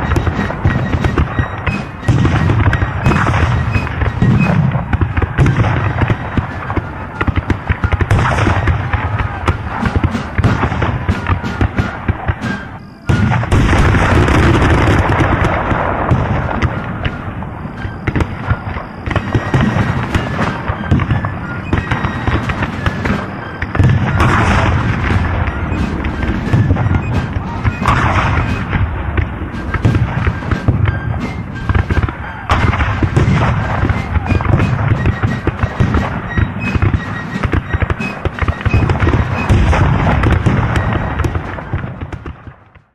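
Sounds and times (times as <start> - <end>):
music: 0.0 - 42.6
explosion booms: 0.0 - 42.7
crackling gunfire: 0.0 - 42.9.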